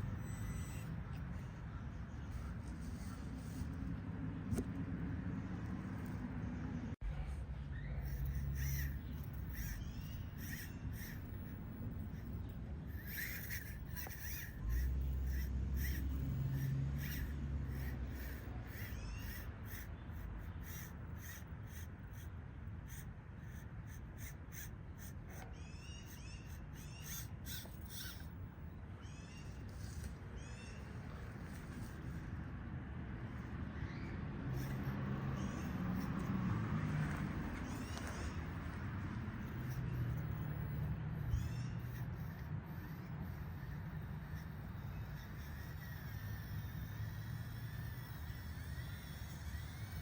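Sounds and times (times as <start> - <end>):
birds calling: 0.0 - 50.0.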